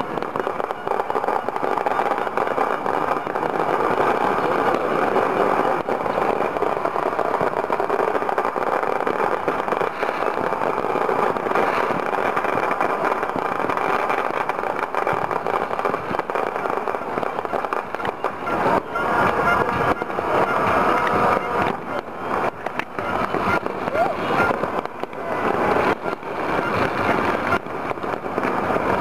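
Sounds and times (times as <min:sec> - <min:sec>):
fireworks crackling and popping: 0:00.0 - 0:29.0.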